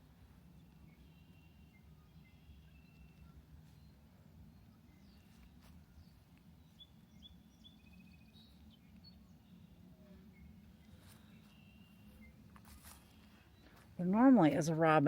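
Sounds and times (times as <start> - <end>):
faint songbirds chirping: 0.0 - 15.0.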